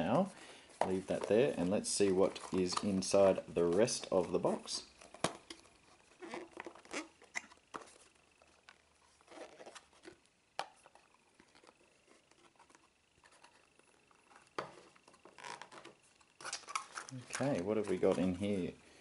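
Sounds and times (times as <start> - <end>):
cardboard rustling and scraping: 0.0 - 18.7.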